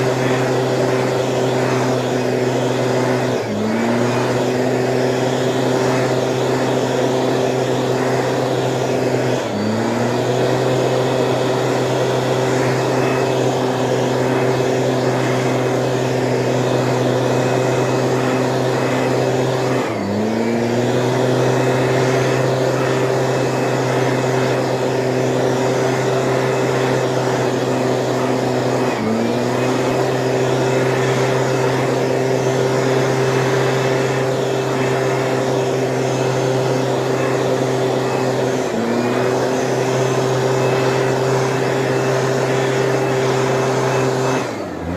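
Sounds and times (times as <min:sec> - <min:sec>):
weed sprayer engine running: 0:00.0 - 0:44.9.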